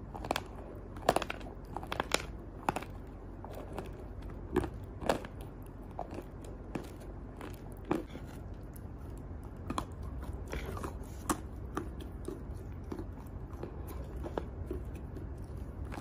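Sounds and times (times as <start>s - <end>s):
chalk being chewed with crunches: 0.0s - 16.0s.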